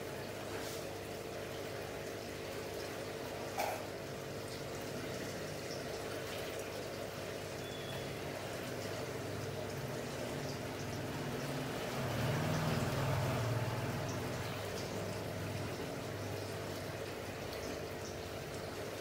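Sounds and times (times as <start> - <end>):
aquarium water trickling and bubbling: 0.0 - 19.0
low pump hum: 0.0 - 19.0.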